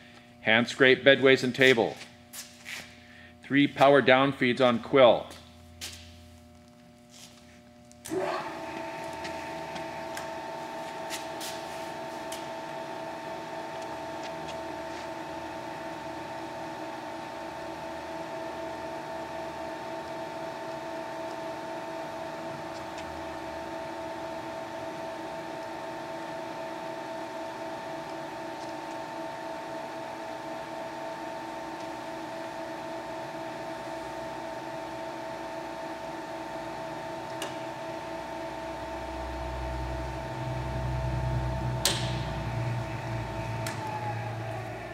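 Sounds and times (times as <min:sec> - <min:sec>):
milling machine motor hum: 0:07.9 - 0:44.9.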